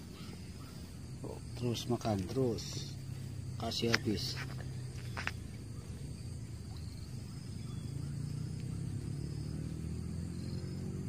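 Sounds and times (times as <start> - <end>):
steady low rumble: 0.0 - 10.7
faint insect-like chirring: 0.0 - 11.0.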